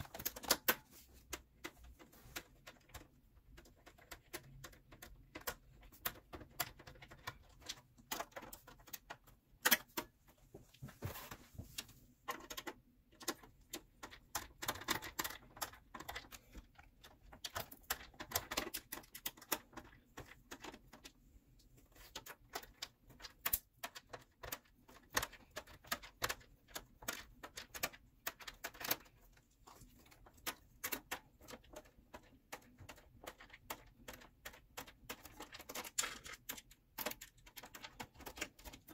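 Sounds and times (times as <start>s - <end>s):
clicks and rattles of computer parts: 0.0s - 38.9s.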